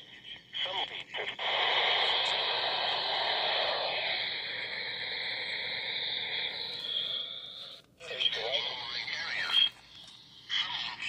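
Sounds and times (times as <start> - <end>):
radio static hiss: 0.0 - 4.8, 6.4 - 11.0.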